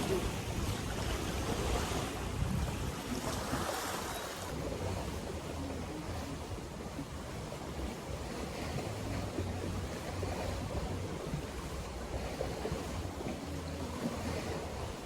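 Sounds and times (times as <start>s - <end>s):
wind and surf: 0.0s - 15.0s
wind rumbling on microphone: 0.0s - 15.0s.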